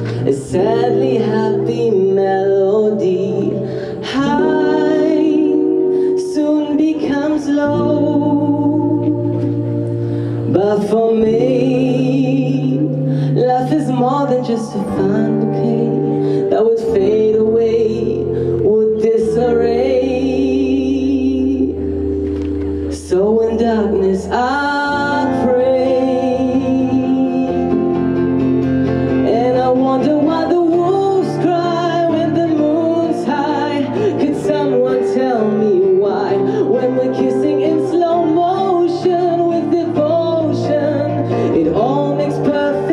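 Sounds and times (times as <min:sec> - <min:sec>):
person singing into a microphone: 0:00.0 - 0:42.9.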